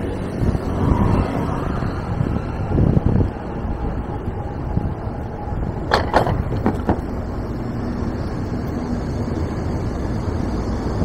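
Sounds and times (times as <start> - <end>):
street traffic: 0.0 - 11.0
wind rumbling on microphone: 0.0 - 11.0.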